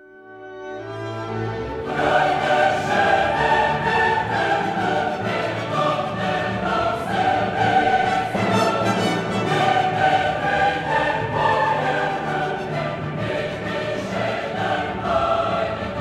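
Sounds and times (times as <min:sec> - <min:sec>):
choir singing sustained notes: 0:00.0 - 0:16.0
orchestral strings: 0:00.0 - 0:16.0.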